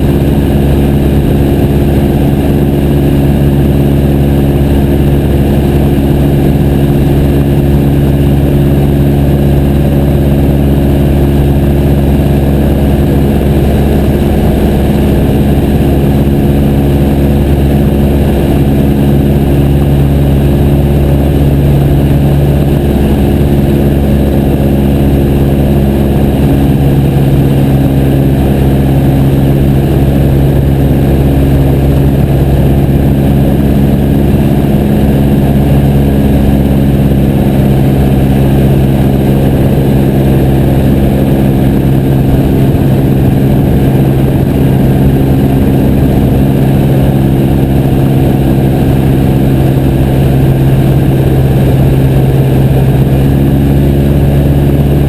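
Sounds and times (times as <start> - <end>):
airplane engine and propeller drone: 0.0 - 55.0.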